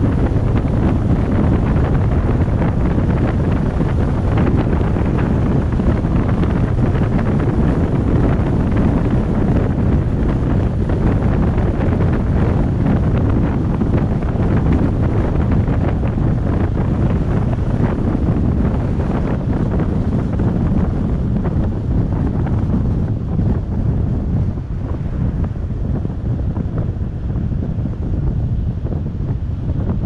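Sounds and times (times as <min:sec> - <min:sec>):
truck road and engine noise: 0:00.0 - 0:30.0
wind buffeting microphone: 0:00.0 - 0:30.0.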